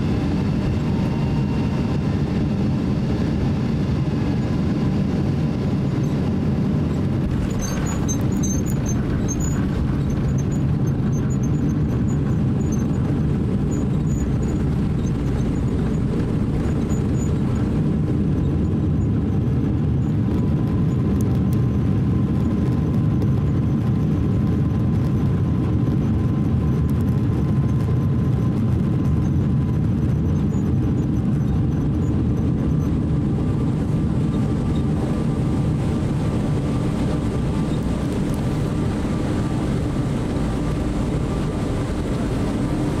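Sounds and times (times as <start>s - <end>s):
low rumble of engines and wheels: 0.0s - 43.0s.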